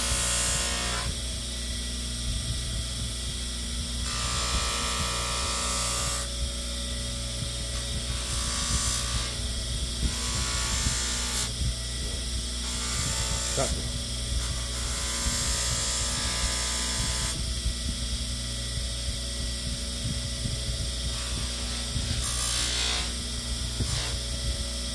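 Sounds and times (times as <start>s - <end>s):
bench polisher motor hum: 0.0s - 18.0s, 20.1s - 24.9s.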